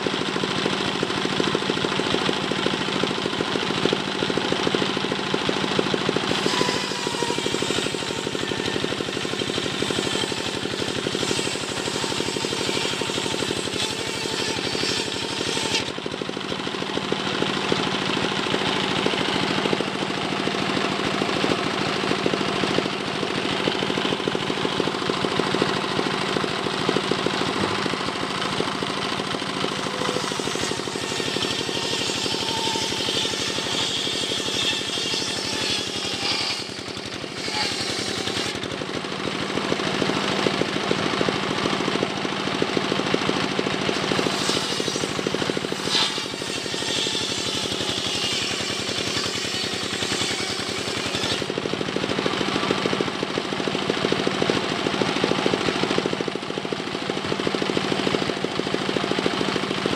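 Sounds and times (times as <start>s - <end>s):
circular saw cutting wood: 0.0s - 59.9s.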